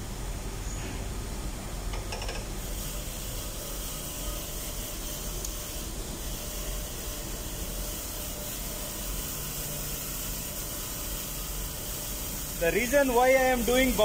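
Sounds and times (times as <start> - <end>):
metal hissing against grinding wheel: 1.9 - 14.0
bench grinder motor hum: 2.6 - 14.0.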